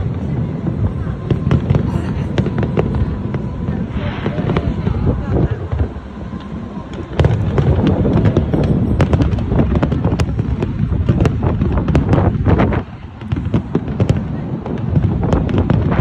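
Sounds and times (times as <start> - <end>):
fireworks crackling and popping: 0.0 - 16.0
low rumble of bursts: 0.0 - 16.0.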